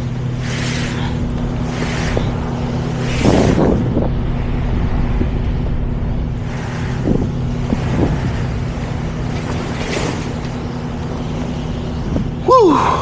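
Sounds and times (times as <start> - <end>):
diesel truck engine droning: 0.0 - 13.0
road noise: 0.0 - 13.0.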